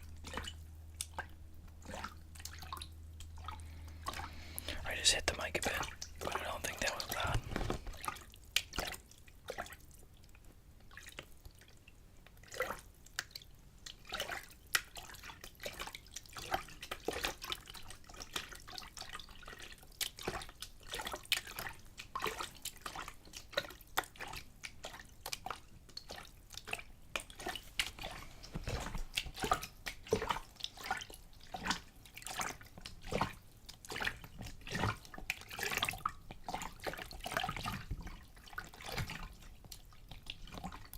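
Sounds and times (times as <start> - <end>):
water splashing in a container: 0.0 - 40.9.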